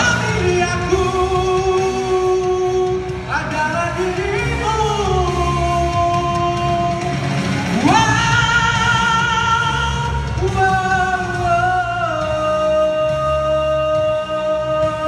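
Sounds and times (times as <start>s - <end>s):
karaoke backing track: 0.0s - 15.0s
person singing long notes: 0.0s - 15.0s.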